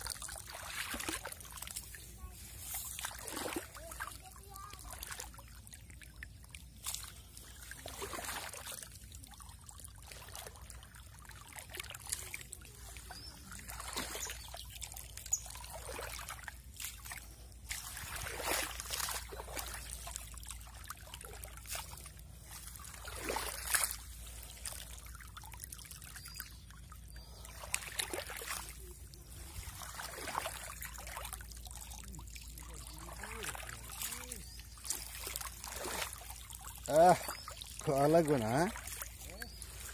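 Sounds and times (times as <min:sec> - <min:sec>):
floodwater trickling and splashing: 0:00.0 - 0:39.9.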